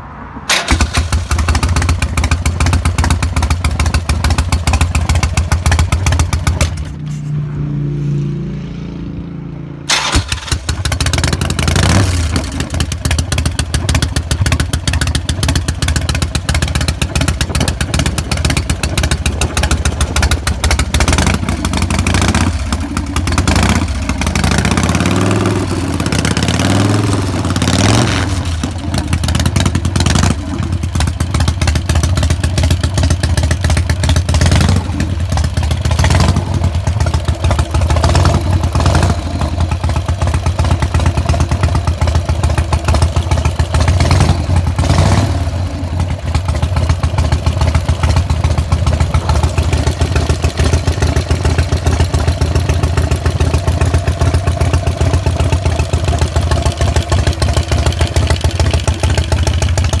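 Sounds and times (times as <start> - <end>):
motorcycle engine idling and revving: 0.0 - 60.0.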